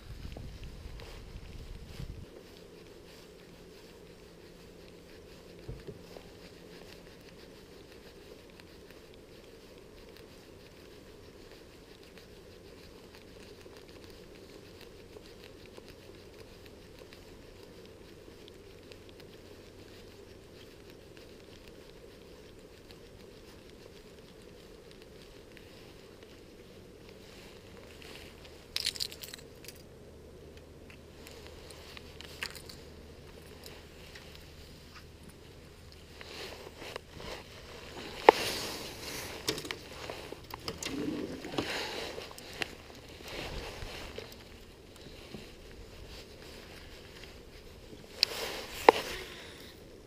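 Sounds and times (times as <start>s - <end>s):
small water clicks and crackles: 0.0s - 29.9s, 30.5s - 49.8s
low steady hiss: 0.0s - 50.0s
low steady hum: 0.0s - 50.0s.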